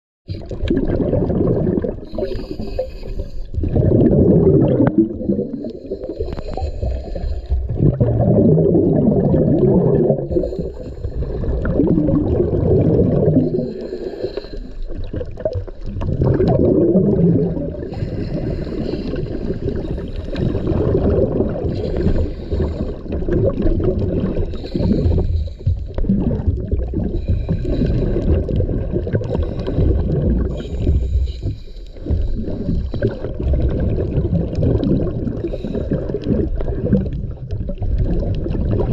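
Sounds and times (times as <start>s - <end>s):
underwater gurgling and bubbling: 0.3s - 38.9s.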